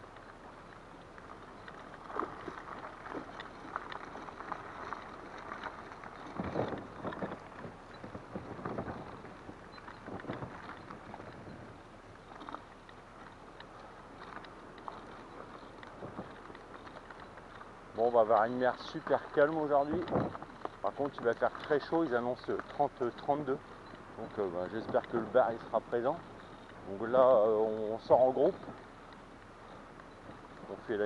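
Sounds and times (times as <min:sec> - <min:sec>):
trolley wheels rumbling on concrete: 0:00.0 - 0:28.9, 0:30.0 - 0:31.0
fishing gear rattling and knocking: 0:00.0 - 0:31.0
wind buffeting microphone: 0:01.3 - 0:12.6, 0:13.7 - 0:29.0.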